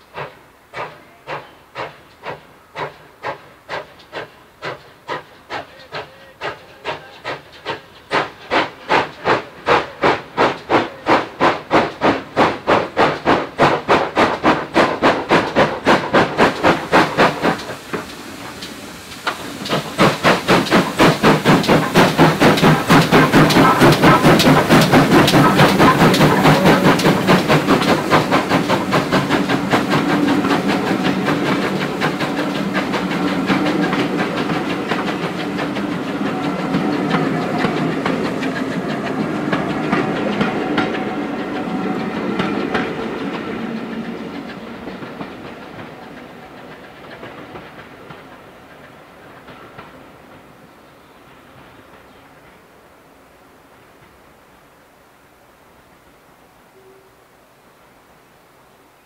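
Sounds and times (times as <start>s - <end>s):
steam locomotive exhaust beats: 0.0s - 52.6s.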